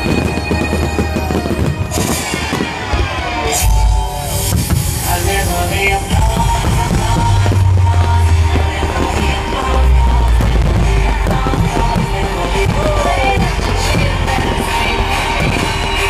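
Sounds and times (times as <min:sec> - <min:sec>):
loud rock music with singing: 0:00.0 - 0:16.0.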